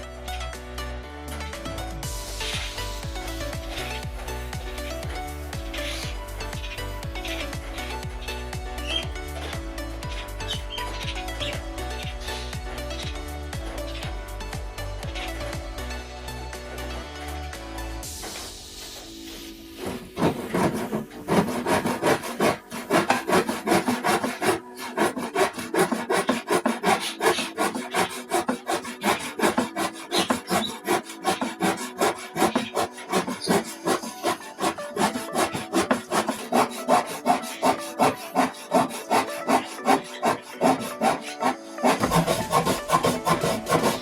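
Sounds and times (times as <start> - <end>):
hand saw cutting wood: 2.4 - 14.6, 18.0 - 44.0.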